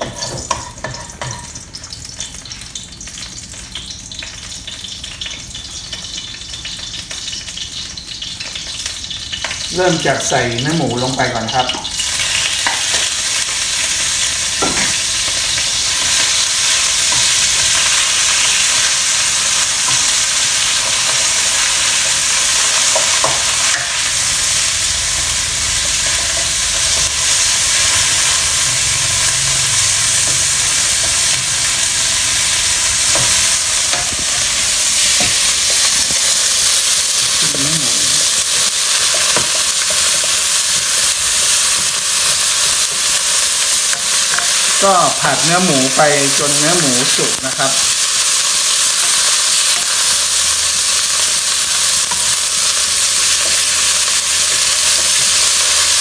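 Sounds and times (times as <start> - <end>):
pork sizzling in hot oil: 0.0 - 56.0.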